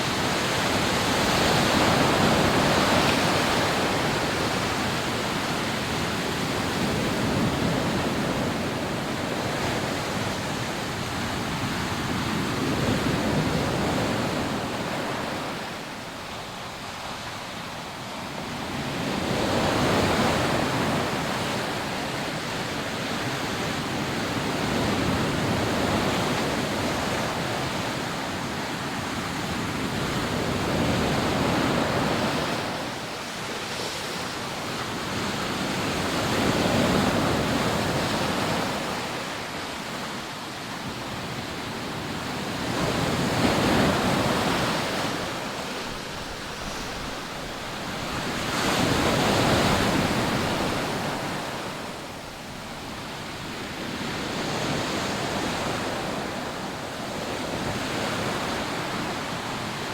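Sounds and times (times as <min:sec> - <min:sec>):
rough surf breaking on a beach: 0:00.0 - 0:59.9.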